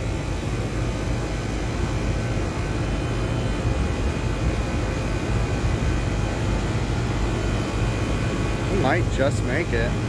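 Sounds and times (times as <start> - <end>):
air conditioner hum: 0.0 - 10.0
fan air rushing: 0.0 - 10.0.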